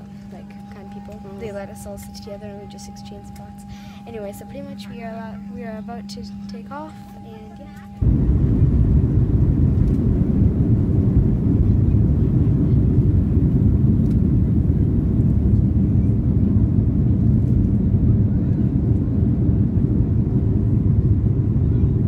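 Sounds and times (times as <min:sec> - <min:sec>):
airliner engines rumbling: 0:00.0 - 0:22.0.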